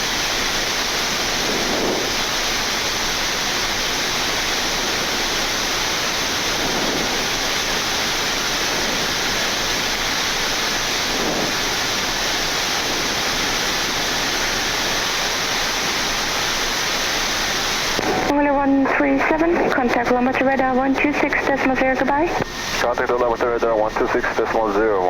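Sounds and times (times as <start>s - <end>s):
airflow and air-conditioning rushing: 0.0s - 25.0s.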